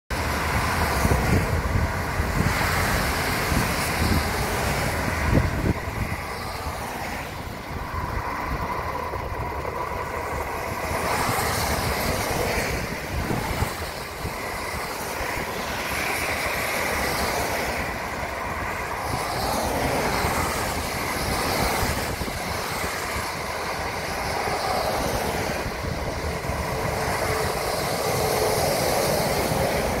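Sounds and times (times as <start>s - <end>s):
low traffic rumble: 0.1s - 30.0s.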